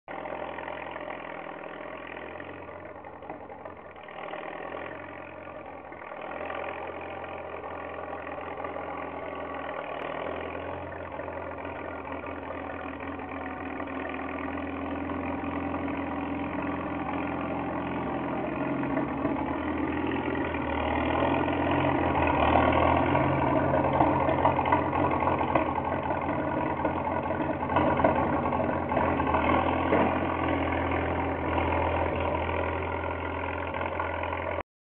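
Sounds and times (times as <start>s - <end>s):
tractor engine running: 0.1s - 34.6s.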